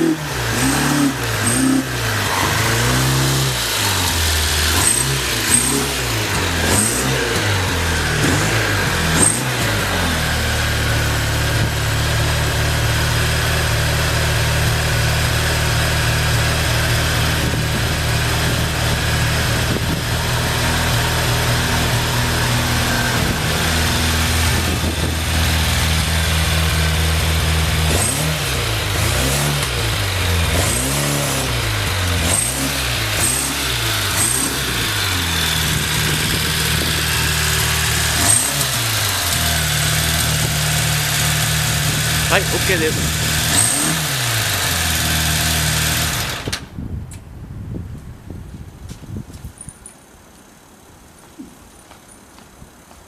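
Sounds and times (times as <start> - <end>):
motorcycle throttle blips: 0.0 - 12.0, 16.4 - 47.3
motorcycle engine running: 0.0 - 46.8.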